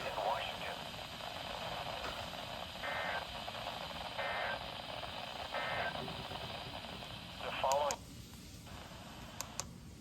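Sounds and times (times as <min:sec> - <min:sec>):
radio receiver hiss: 0:00.0 - 0:09.7.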